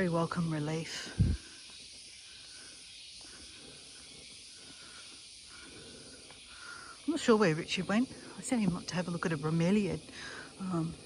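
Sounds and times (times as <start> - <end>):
cicadas hissing: 0.0 - 11.0.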